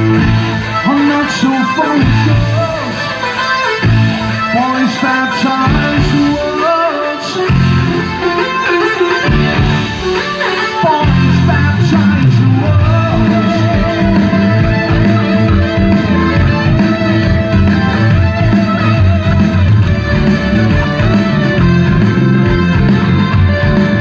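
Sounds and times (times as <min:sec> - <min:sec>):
electric guitar: 0:00.0 - 0:24.0
live rock band: 0:00.0 - 0:24.0.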